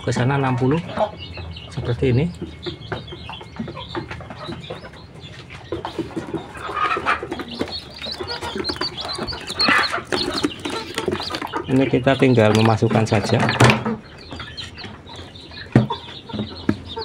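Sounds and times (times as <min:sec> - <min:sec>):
chickens clucking: 0:00.0 - 0:17.0
chicks peeping: 0:00.0 - 0:17.0.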